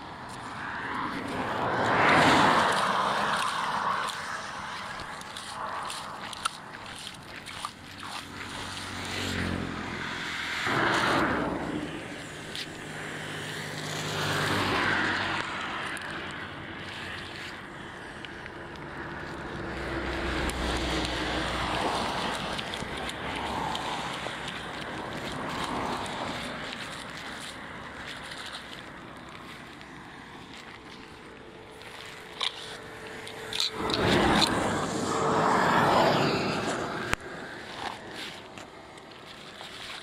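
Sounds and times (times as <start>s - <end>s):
low engine hum: 0.0s - 40.0s
steady background wash: 0.0s - 40.0s
vehicles passing: 0.0s - 40.0s.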